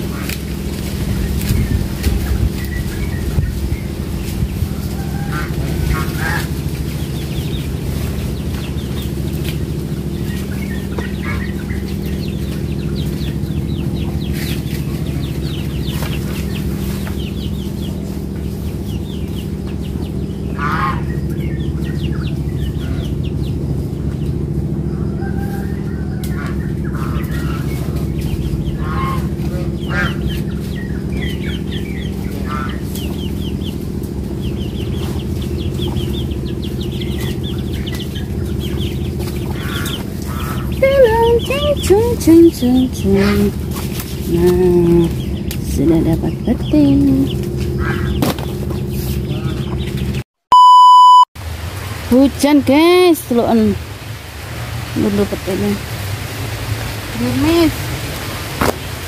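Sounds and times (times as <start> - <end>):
chickens clucking: 0.0 - 50.2
steady low hum: 0.0 - 50.2.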